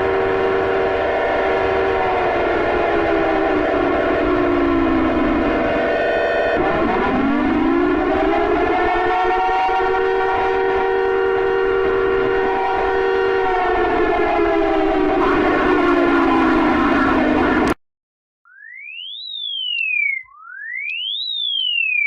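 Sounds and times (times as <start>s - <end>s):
warning siren wailing: 0.0s - 17.8s, 18.5s - 22.0s.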